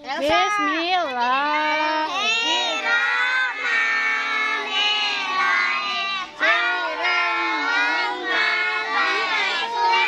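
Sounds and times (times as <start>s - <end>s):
children chanting a prayer: 1.5s - 10.0s.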